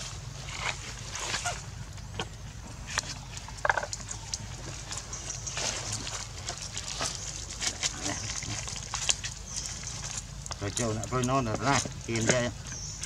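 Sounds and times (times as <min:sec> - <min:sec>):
monkeys lapping and slurping: 0:00.0 - 0:13.0.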